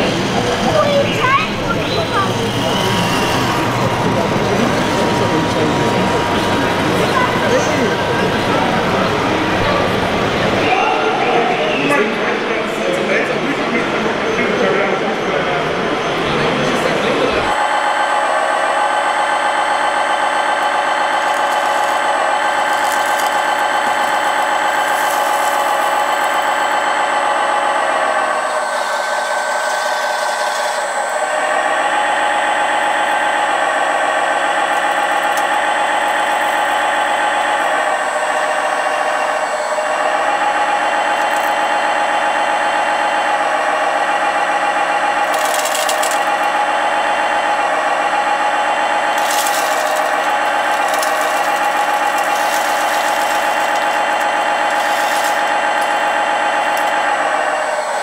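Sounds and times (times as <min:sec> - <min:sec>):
hydraulic pump whine: 0:00.0 - 0:58.0.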